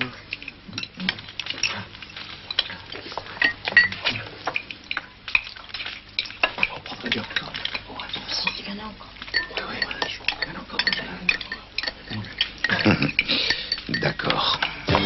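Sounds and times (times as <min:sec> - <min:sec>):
cutlery clinking on plates: 0:00.3 - 0:15.0.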